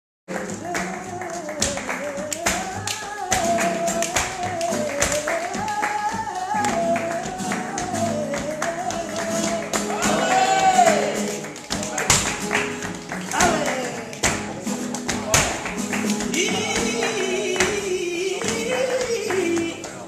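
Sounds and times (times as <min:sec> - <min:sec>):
flamenco guitar: 0:00.3 - 0:20.0
rhythmic hand-clapping: 0:00.3 - 0:20.0.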